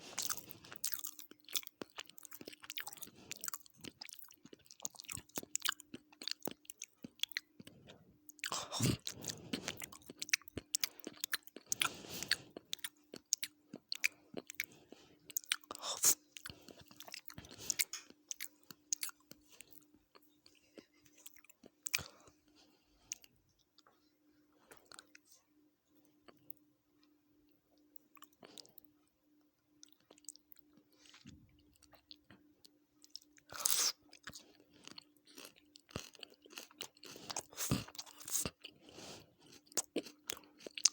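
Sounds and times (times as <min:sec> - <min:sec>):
person chewing food: 0:00.0 - 0:25.4, 0:26.0 - 0:27.2, 0:27.8 - 0:29.1, 0:29.7 - 0:40.9
faint steady hum: 0:00.0 - 0:40.9.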